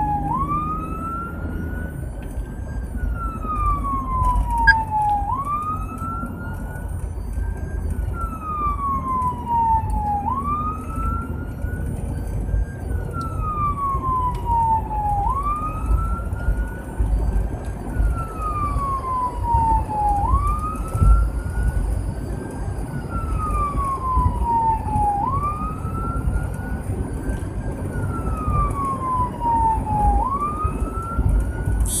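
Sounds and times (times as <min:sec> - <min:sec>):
emergency siren wailing: 0:00.0 - 0:32.0
engine and road rumble: 0:00.0 - 0:32.0.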